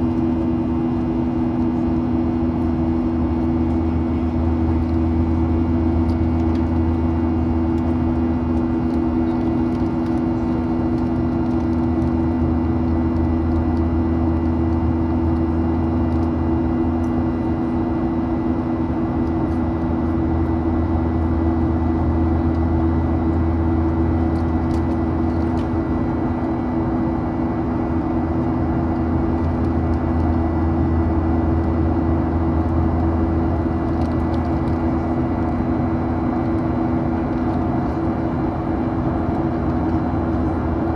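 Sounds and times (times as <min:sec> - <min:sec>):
airliner cabin engine drone: 0:00.0 - 0:40.9.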